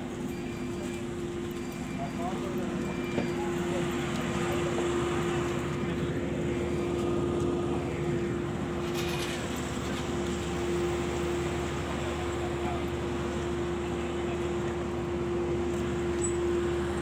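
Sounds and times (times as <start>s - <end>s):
machine drone with hum: 0.0s - 17.0s.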